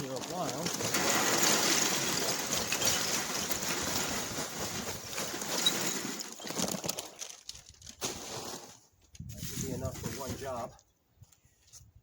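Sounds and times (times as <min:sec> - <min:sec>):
charcoal being raked out: 0:00.0 - 0:10.7.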